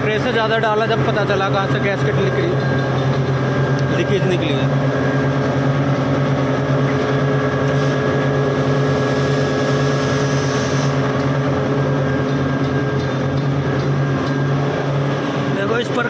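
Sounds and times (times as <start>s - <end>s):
industrial machinery humming: 0.0s - 16.0s.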